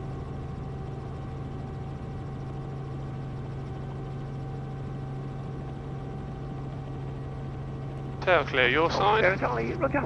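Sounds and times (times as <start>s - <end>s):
helicopter engine and rotors droning: 0.0s - 10.0s.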